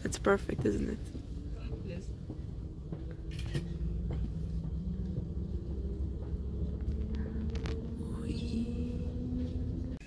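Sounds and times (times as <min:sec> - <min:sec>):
train rumble inside carriage: 0:00.0 - 0:10.0
faint hum: 0:01.2 - 0:10.0.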